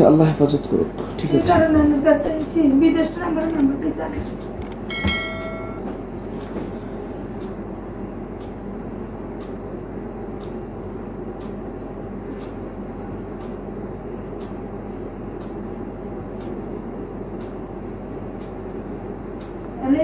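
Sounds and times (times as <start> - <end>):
fan hum and rushing: 0.0 - 20.0.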